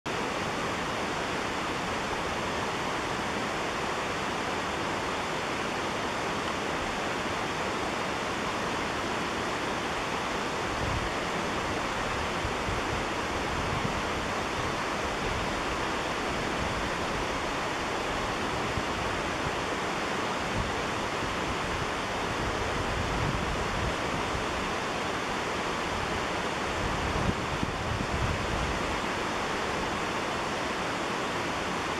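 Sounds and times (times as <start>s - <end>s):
rushing water: 0.1s - 31.9s.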